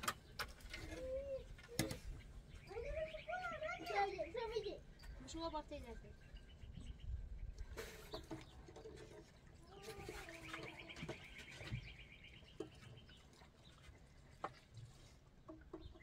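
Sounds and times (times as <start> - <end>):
birds calling faintly: 0.0 - 16.0.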